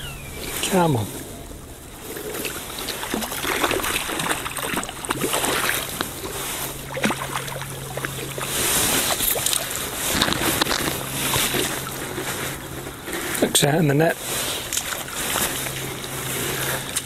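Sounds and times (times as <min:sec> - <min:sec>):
fish splashing in water: 0:00.3 - 0:13.4, 0:14.2 - 0:17.0.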